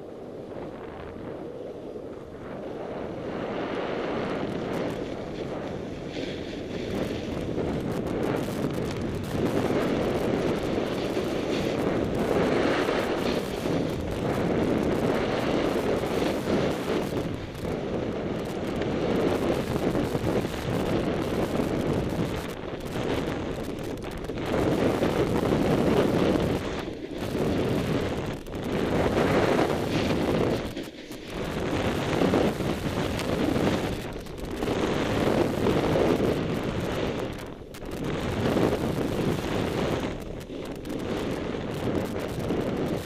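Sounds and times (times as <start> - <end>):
snowboard scraping over snow: 0.0 - 43.0
wind buffeting microphone: 0.0 - 43.0.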